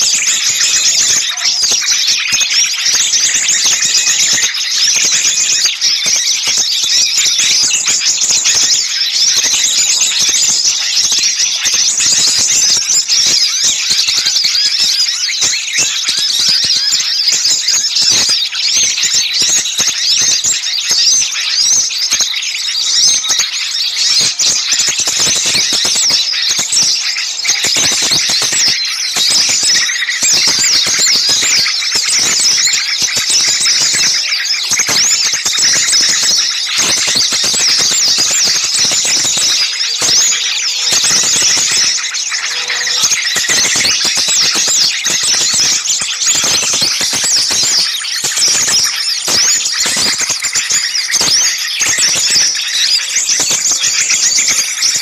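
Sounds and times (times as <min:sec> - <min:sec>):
small songbirds chirping: 0:00.0 - 0:55.0.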